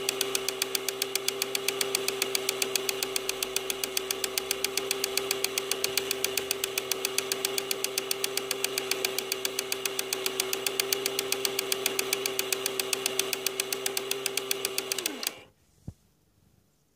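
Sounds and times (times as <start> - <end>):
projector motor hum: 0.0 - 15.6.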